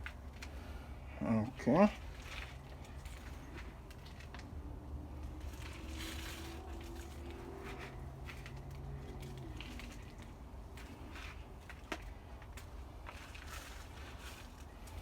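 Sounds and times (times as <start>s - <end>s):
soil rustling and crunching: 0.0s - 15.0s.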